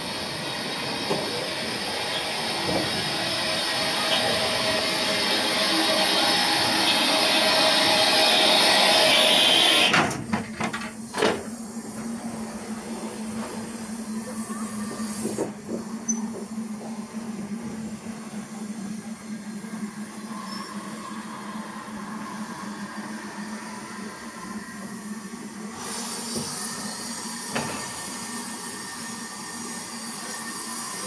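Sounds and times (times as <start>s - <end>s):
steam locomotive hissing: 0.0s - 10.0s, 10.8s - 31.0s.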